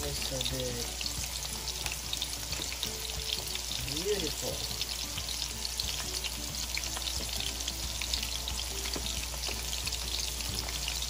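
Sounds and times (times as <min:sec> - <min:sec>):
pork chops sizzling in hot oil: 0:00.0 - 0:11.0.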